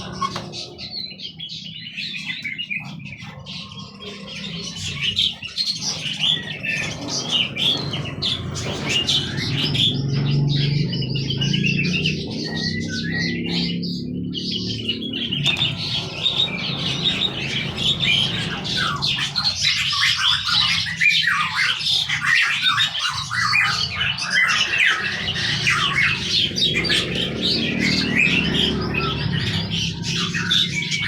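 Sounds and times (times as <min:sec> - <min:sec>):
songbirds chirping and squawking: 0:00.0 - 0:31.0.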